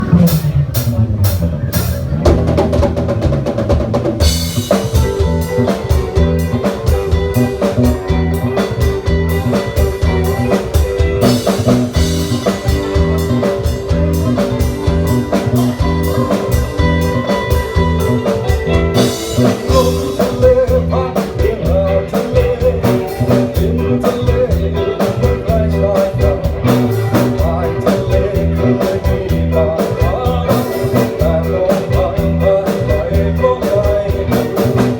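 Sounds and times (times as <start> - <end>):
band music with drum beat: 0.0 - 34.9.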